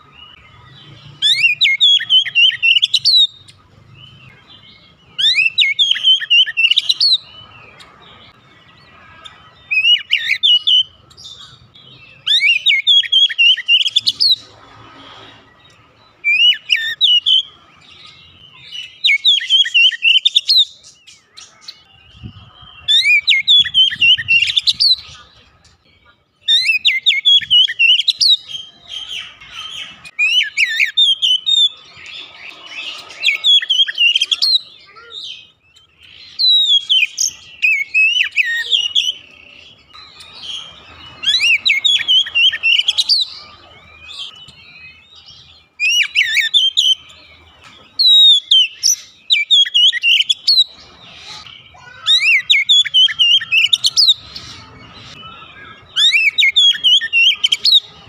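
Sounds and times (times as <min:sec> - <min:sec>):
bird singing whistled phrases: 0:00.3 - 0:03.6, 0:05.2 - 0:07.4, 0:09.6 - 0:14.4, 0:16.2 - 0:17.5, 0:18.2 - 0:25.3, 0:26.4 - 0:47.2, 0:47.9 - 0:50.7, 0:51.3 - 0:57.9.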